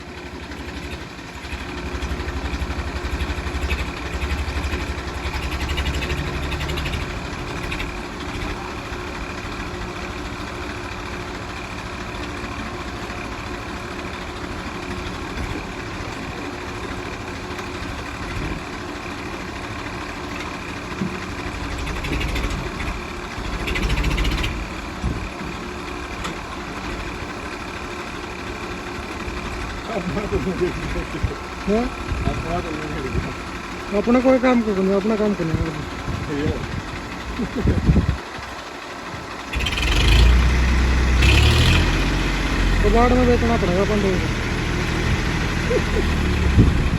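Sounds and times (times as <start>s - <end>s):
tractor diesel engine revving: 0.1s - 46.9s.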